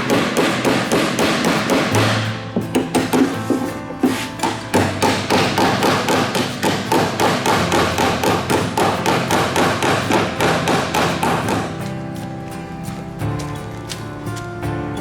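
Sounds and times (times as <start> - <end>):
rapid evenly spaced knocks: 0.0 - 15.0.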